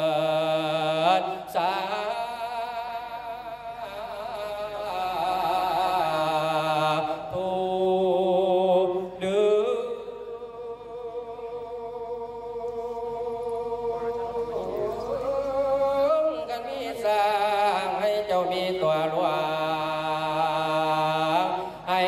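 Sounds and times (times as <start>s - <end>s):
man chanting: 0.0s - 22.0s.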